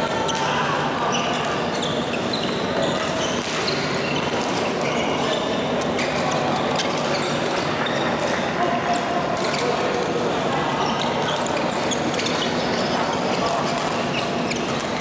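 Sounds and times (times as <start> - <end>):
shoe squeaks on court floor: 0.0 - 8.2, 10.8 - 15.0.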